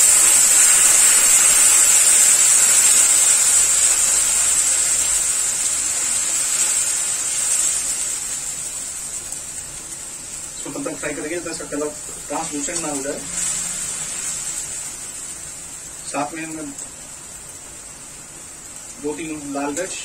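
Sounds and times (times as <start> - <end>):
onion paste sizzling in oil: 0.0 - 20.0.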